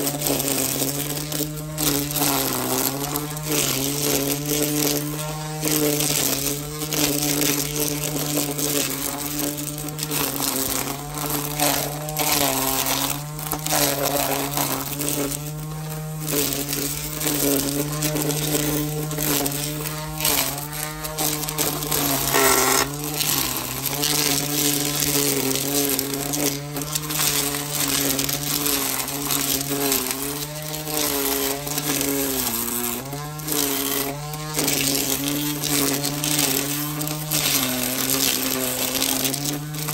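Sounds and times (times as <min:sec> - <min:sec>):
rustle of chopped leaves: 0:00.0 - 0:39.9
string trimmer motor buzz: 0:00.0 - 0:39.9.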